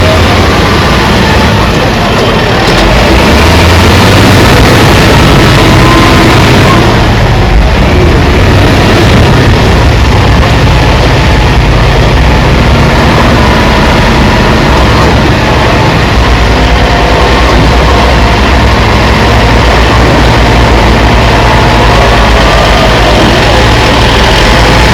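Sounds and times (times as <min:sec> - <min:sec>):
heavy machine engine rumbling: 0:00.0 - 0:24.9.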